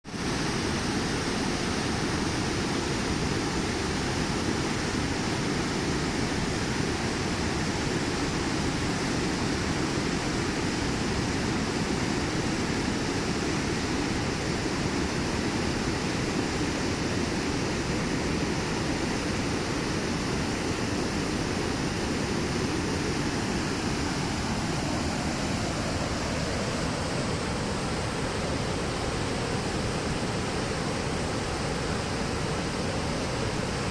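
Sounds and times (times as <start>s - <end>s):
river water rushing: 0.1s - 33.9s.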